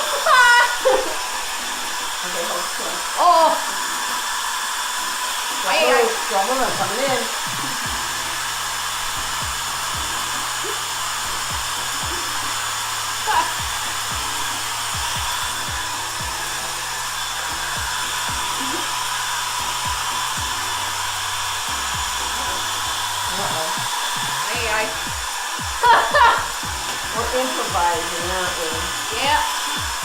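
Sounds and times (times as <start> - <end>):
background music: 0.0 - 30.0
electric blower rushing: 0.0 - 30.0.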